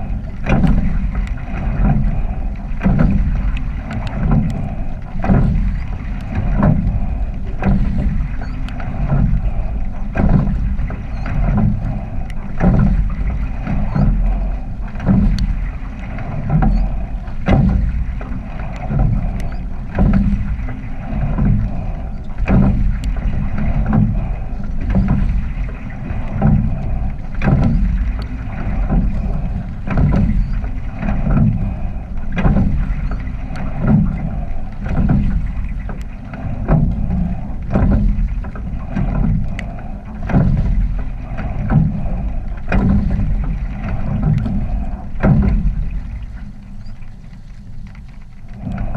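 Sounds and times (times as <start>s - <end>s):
oars knocking and splashing: 0.0s - 48.9s
water rushing along hull: 0.0s - 48.9s
wind buffeting microphone: 0.0s - 48.9s.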